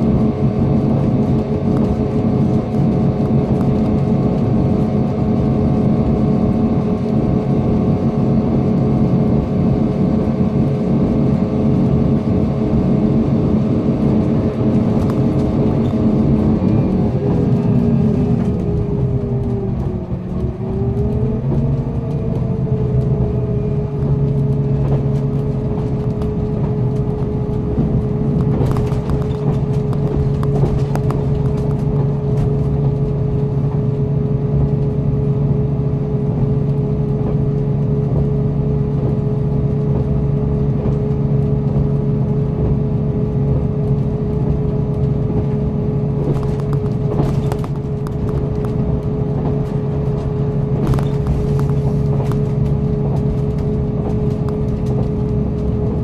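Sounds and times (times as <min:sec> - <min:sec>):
train engine hum: 0:00.0 - 0:56.0
wheel rumble: 0:00.0 - 0:56.0.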